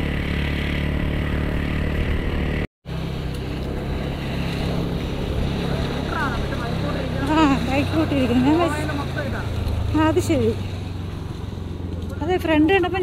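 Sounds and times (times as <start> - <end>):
scooter engine running: 0.0 - 13.0
wind and road noise: 0.0 - 13.0.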